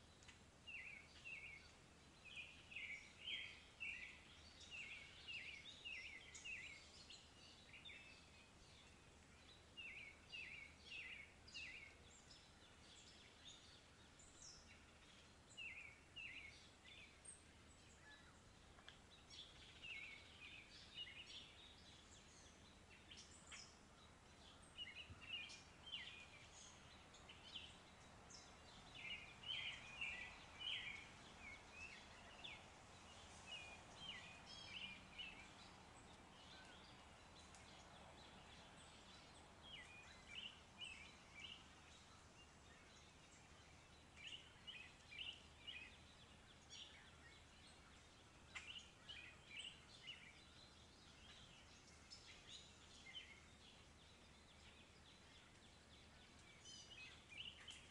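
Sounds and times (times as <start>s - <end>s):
faint birds chirping: 0.0s - 57.9s
low background hiss: 0.0s - 57.9s.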